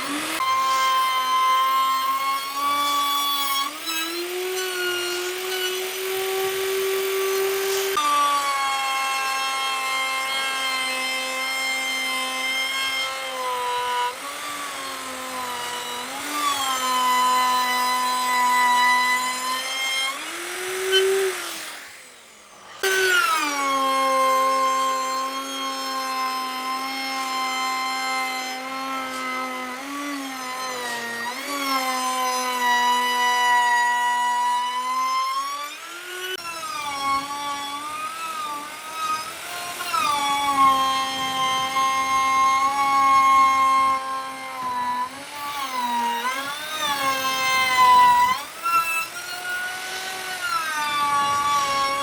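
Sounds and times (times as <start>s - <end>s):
woodworking power tool whining: 0.0s - 52.0s.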